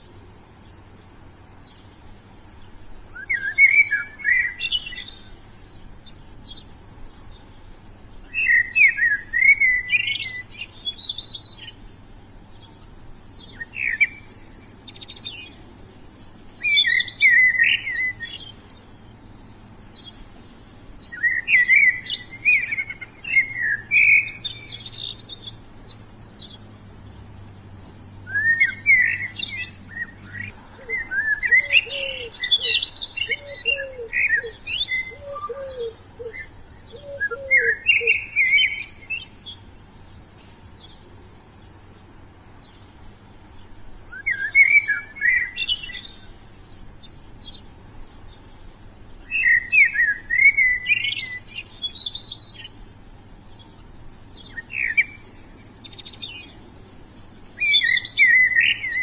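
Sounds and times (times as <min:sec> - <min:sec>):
songbirds singing: 0:00.0 - 0:59.0
steady high hiss: 0:00.0 - 0:59.0.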